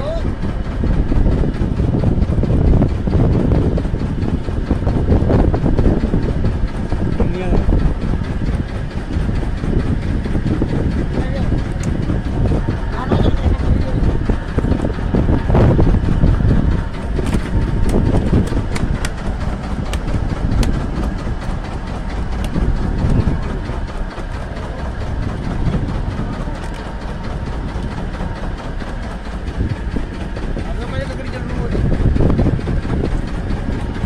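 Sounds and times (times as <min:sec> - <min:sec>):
boat engine rumbling: 0:00.0 - 0:34.0.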